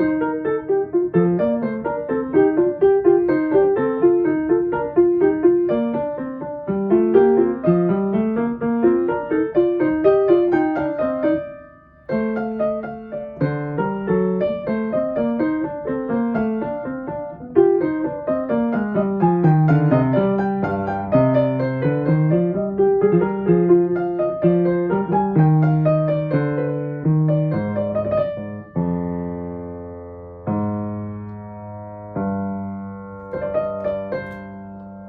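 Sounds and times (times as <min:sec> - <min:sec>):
piano piece with running notes: 0:00.0 - 0:35.0.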